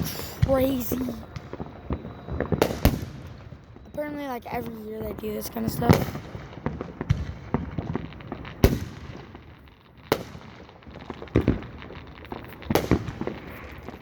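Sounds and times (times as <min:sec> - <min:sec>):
distant fireworks booming: 0:00.0 - 0:14.0
fireworks popping and crackling: 0:00.0 - 0:14.0.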